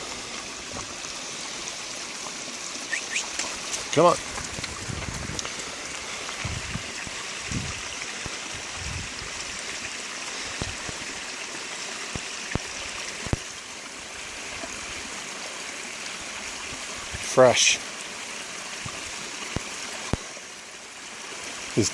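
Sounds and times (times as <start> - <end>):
stream water running: 0.0 - 21.9.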